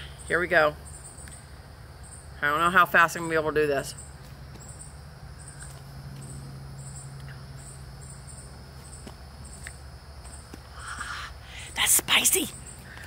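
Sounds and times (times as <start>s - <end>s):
insects chirping: 0.0s - 13.0s
steady low hum: 0.0s - 13.0s.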